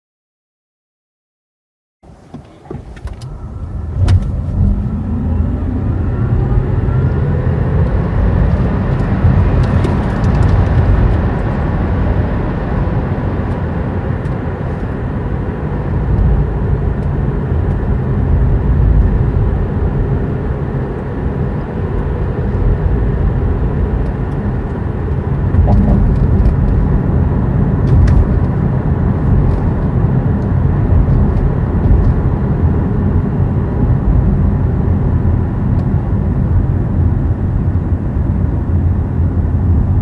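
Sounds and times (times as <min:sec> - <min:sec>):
road and tyre rumble: 0:02.0 - 0:40.0.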